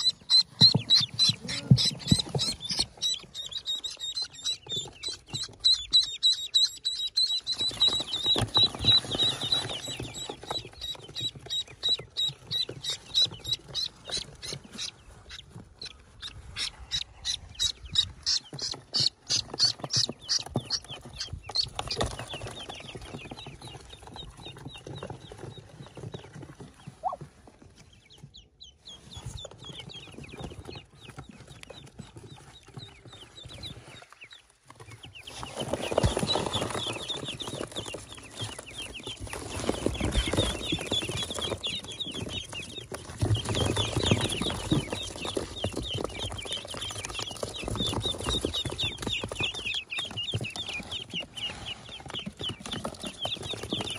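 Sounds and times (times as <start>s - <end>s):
ducklings peeping: 0.0s - 53.9s.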